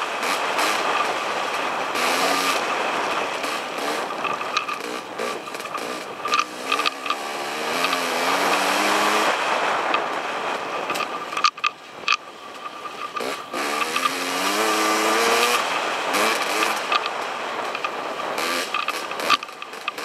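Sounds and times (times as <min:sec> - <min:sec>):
dirt bike engine revving: 0:00.0 - 0:11.5, 0:12.8 - 0:20.0.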